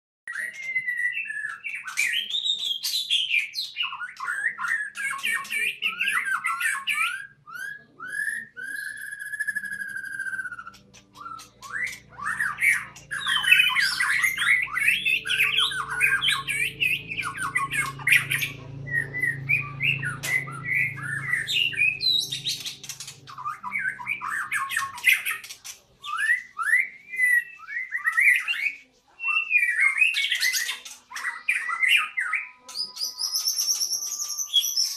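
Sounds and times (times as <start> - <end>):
bird singing varied song: 0.3 - 34.9.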